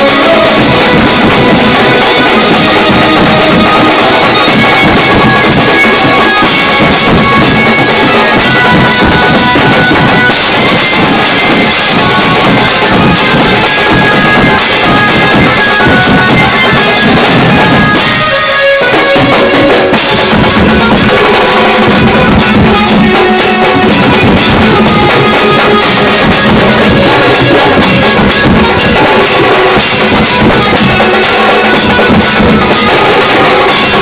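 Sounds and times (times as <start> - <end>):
melody of held notes: 0.0 - 34.0
tom-toms and cymbals drumming: 0.0 - 34.0.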